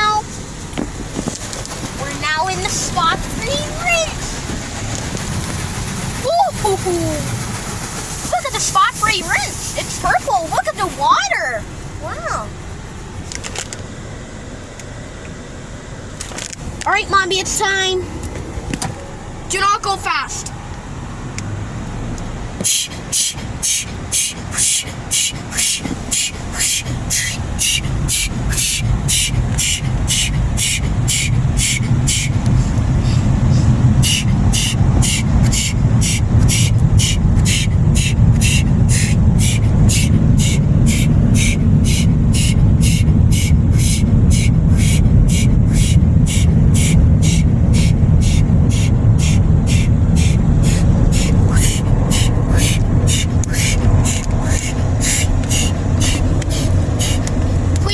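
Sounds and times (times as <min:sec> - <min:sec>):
car wash low rumble: 0:00.0 - 0:57.9
car wash rhythmic hiss: 0:00.0 - 0:57.9.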